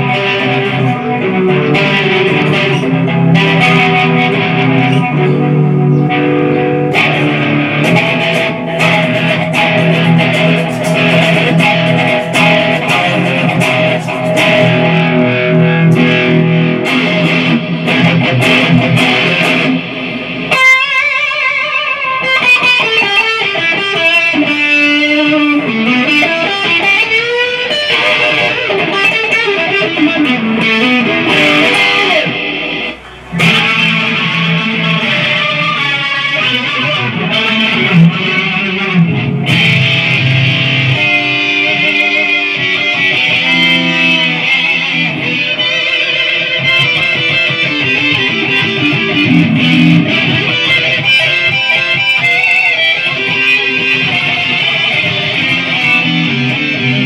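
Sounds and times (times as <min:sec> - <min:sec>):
electric guitar through amp: 0:00.0 - 0:57.0.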